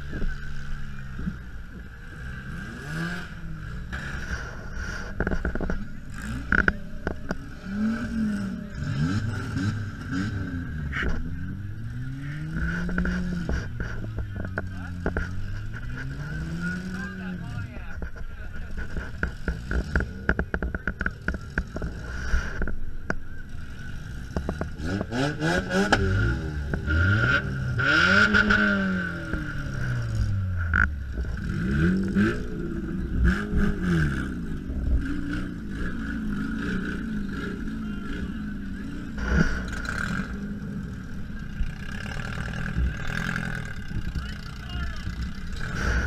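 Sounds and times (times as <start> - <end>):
car engine revving: 0.0 - 46.0
car rattling and clattering: 0.0 - 46.0.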